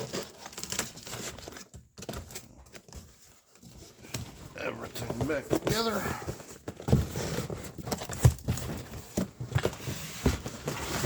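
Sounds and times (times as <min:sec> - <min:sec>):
parts and packaging handled: 0:00.0 - 0:11.0.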